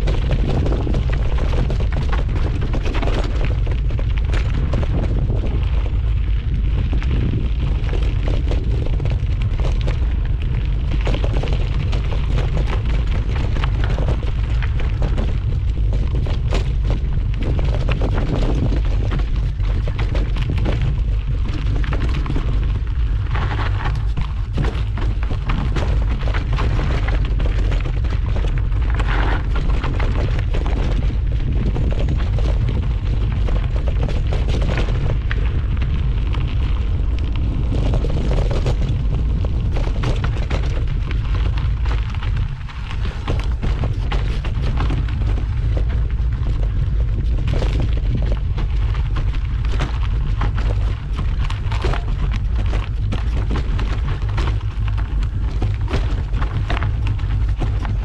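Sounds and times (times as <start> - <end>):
bike rattling over bumps: 0.0 - 58.0
wind buffeting microphone: 0.0 - 58.0.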